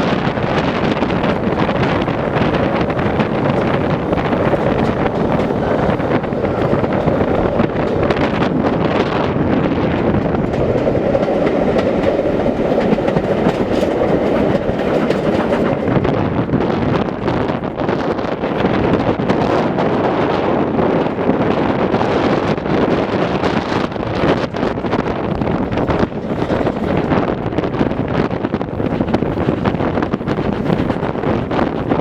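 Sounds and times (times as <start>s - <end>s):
train wheels clicking on rails: 0.0s - 32.0s.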